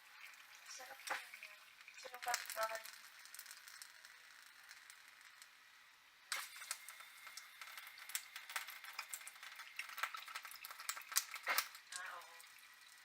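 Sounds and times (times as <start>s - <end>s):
water sputtering from faucet: 0.0s - 13.0s.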